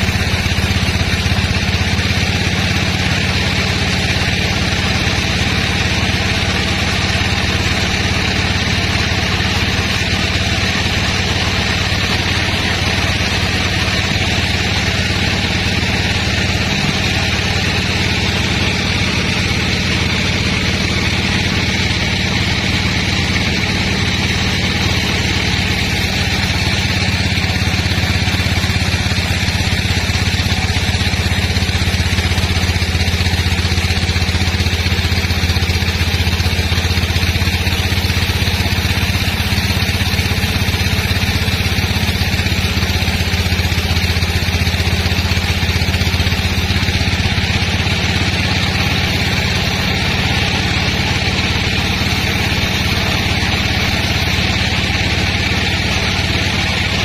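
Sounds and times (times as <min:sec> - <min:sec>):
sawmill engine humming: 0:00.0 - 0:57.0.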